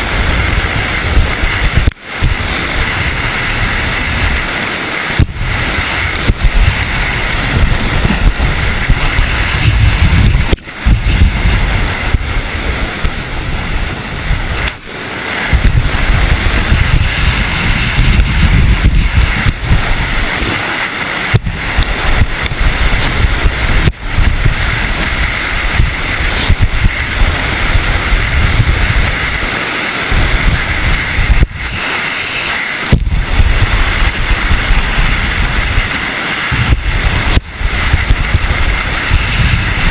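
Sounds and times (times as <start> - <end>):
skis hissing on snow: 0.0 - 39.9
wind buffeting camera: 0.0 - 39.9.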